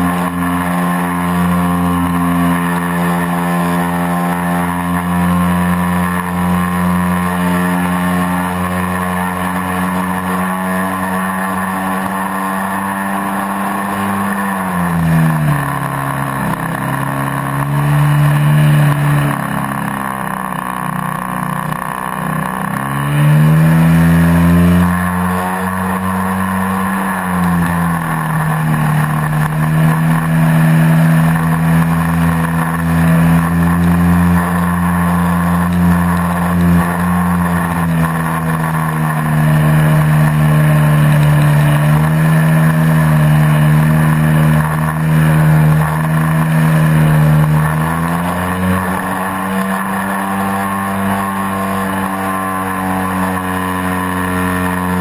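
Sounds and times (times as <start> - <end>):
light aircraft engine and propeller: 0.0 - 18.2, 25.1 - 55.0.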